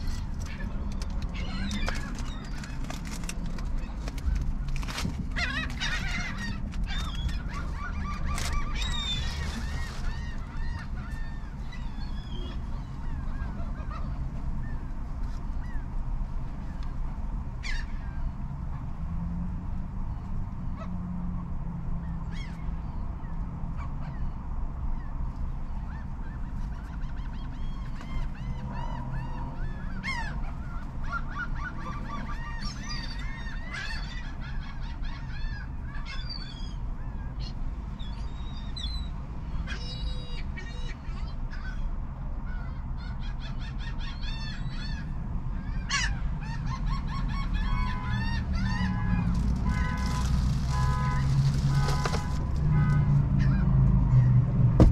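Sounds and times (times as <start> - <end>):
gulls calling: 0.0 - 15.9, 25.8 - 54.4.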